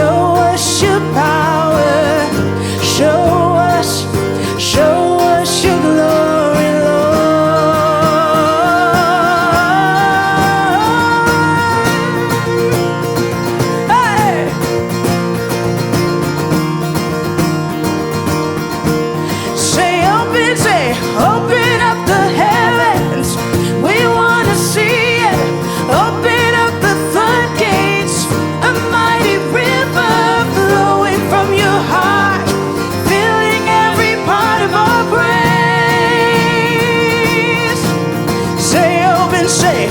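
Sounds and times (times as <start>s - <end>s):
person singing: 0.0s - 15.6s, 19.0s - 39.9s
strummed acoustic guitar: 0.0s - 39.9s.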